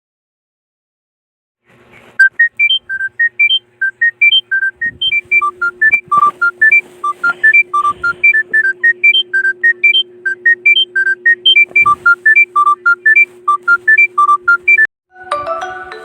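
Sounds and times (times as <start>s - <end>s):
ringtone melody: 2.2s - 16.0s
low held tone: 2.3s - 16.0s.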